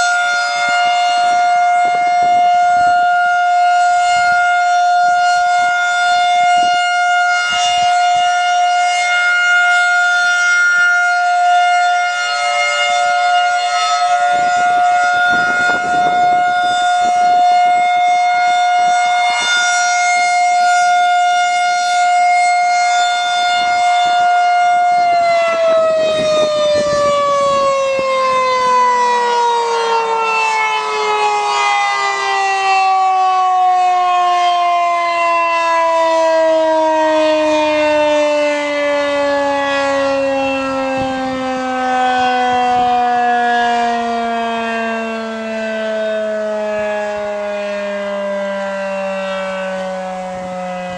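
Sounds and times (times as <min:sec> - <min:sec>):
electromechanical storm siren wailing: 0:00.0 - 0:50.9.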